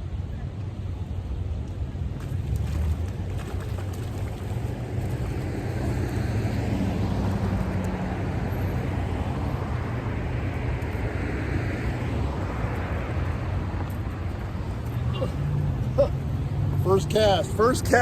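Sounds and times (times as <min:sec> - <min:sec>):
low engine hum: 0:00.0 - 0:18.0
vehicle tyre noise: 0:01.9 - 0:18.0.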